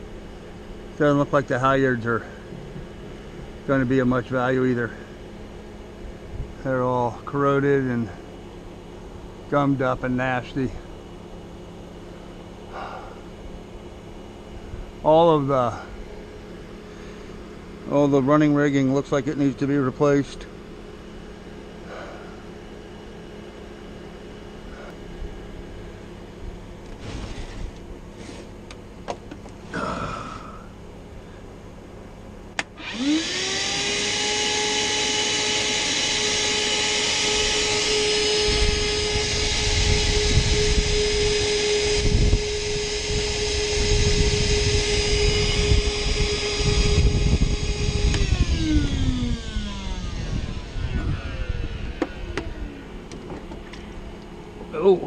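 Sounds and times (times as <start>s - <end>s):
shop vacuum motor whine: 0.0s - 55.0s.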